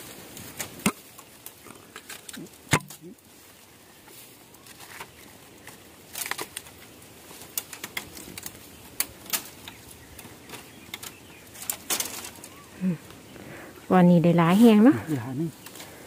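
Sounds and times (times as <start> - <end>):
dry stems and leaves crackling: 0.0 - 16.0.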